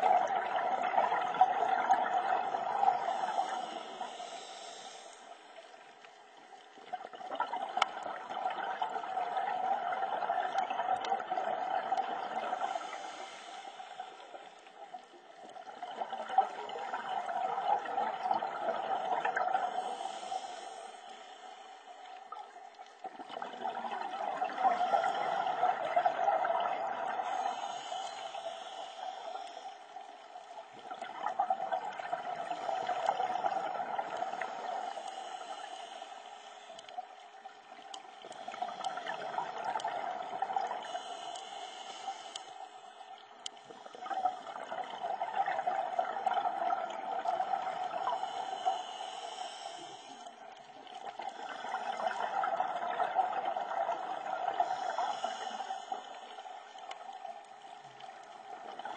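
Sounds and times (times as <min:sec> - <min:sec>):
exhaled bubbles gurgling: 0:00.0 - 0:58.9
scuba regulator breathing: 0:01.9 - 0:06.2, 0:10.1 - 0:14.8, 0:15.4 - 0:22.4, 0:24.1 - 0:45.0, 0:45.6 - 0:58.9.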